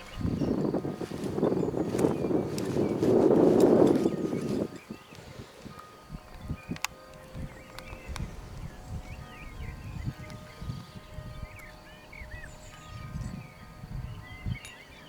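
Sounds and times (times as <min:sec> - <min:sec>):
small birds chirping: 0:00.0 - 0:15.0
wind gusting on microphone: 0:00.0 - 0:15.0.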